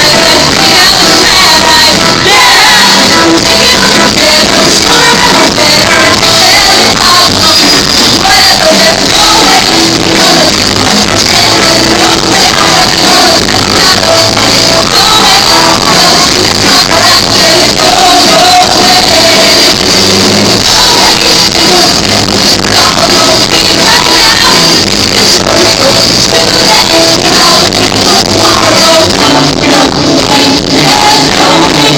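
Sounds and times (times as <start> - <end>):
live pop-rock band: 0.0 - 31.9
people singing: 0.0 - 31.9.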